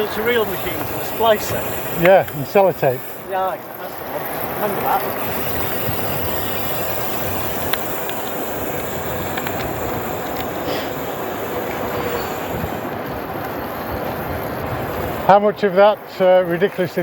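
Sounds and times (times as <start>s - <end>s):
bike rolling noise: 0.0s - 17.0s
wind noise: 0.0s - 17.0s.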